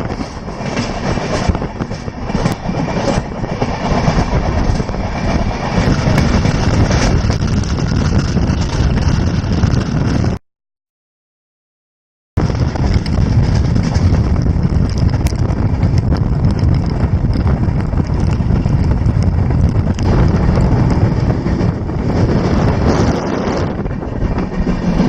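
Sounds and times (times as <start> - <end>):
train wheels rumbling on track: 0.0 - 10.4, 12.4 - 25.0
wind buffeting microphone: 0.0 - 10.4, 12.4 - 25.0.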